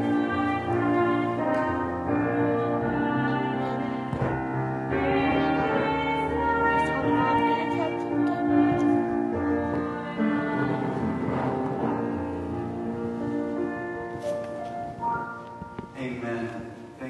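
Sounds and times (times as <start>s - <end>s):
slow keyboard chords: 0.0s - 17.0s.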